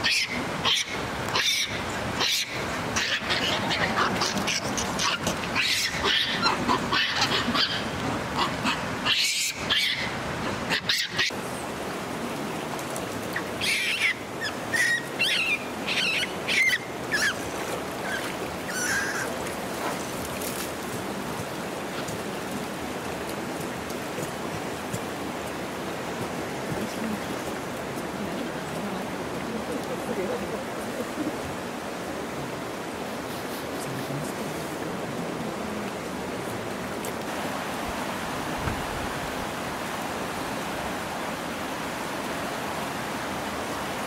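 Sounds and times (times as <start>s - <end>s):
water flowing: 0.0s - 44.0s.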